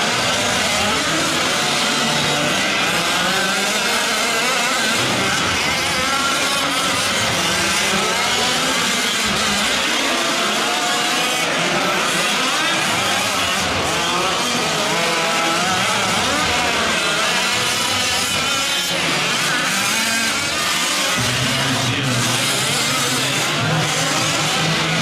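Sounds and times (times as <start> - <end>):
small two-stroke engines buzzing: 0.0 - 25.0.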